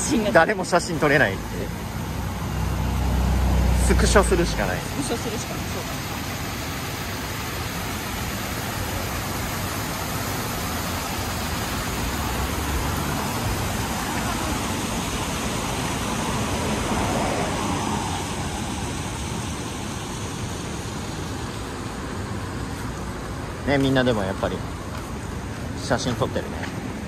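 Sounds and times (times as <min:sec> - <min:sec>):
road traffic passing: 0:00.0 - 0:27.0
small waterfall splashing: 0:00.0 - 0:27.0.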